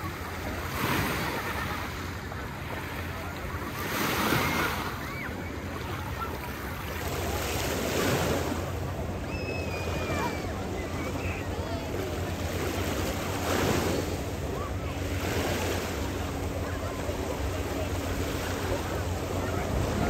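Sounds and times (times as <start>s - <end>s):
faint distant voices: 0.0s - 20.0s
small waves washing: 0.0s - 20.0s.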